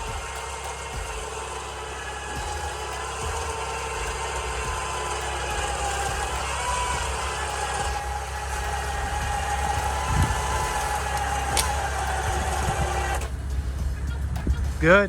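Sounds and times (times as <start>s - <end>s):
car engine idling: 0.0s - 15.0s
electric winch whine: 0.0s - 15.0s.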